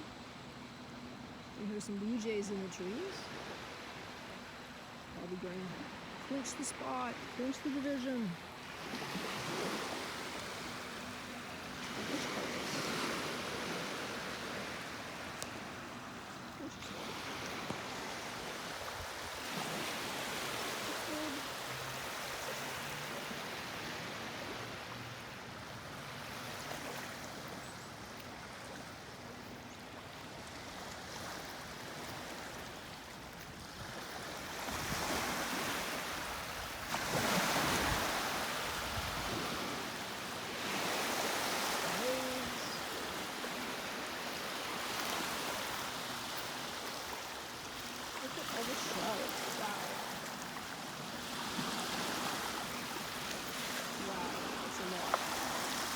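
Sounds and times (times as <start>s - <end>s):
lake waves washing onto beach: 2.4s - 55.9s.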